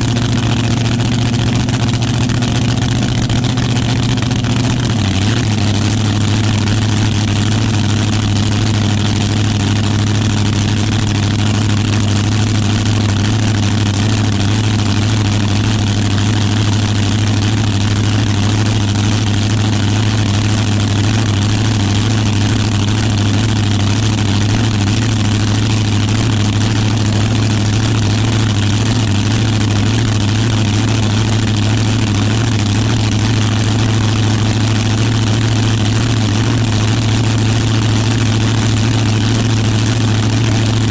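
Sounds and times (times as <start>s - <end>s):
loud vee eight engine idling: 0.0s - 40.9s.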